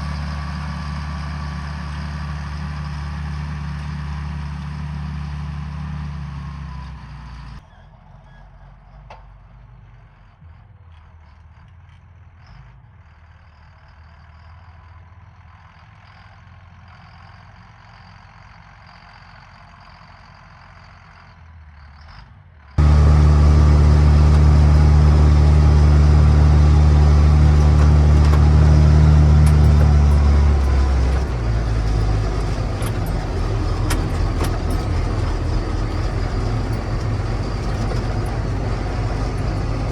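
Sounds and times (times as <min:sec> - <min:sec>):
tractor diesel engine drone: 0:00.0 - 0:39.9.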